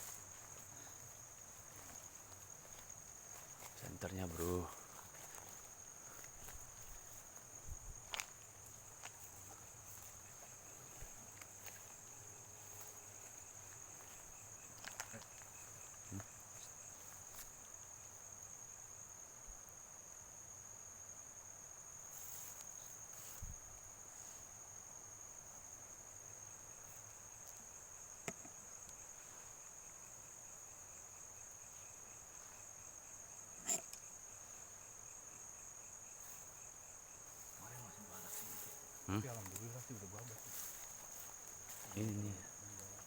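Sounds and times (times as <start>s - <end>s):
insects trilling: 0.0s - 43.0s.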